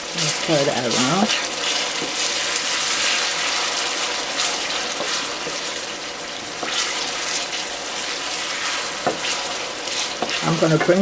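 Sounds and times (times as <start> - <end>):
vegetables sizzling in oil: 0.0 - 11.0
stirring scrapes in pan: 0.2 - 11.0.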